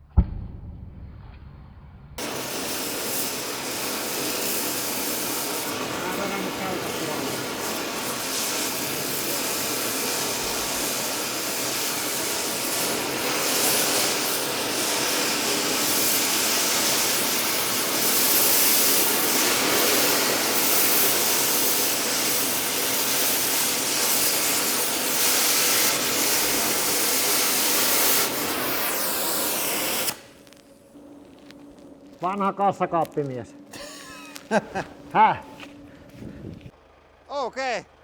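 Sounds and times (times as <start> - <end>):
cutting torch hissing: 2.2 - 35.9.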